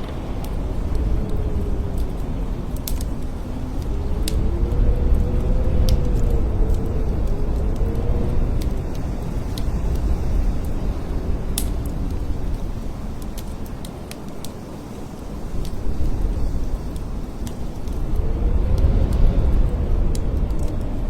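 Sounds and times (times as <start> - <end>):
howling blizzard wind: 0.0 - 21.0
light ticks: 0.0 - 21.0.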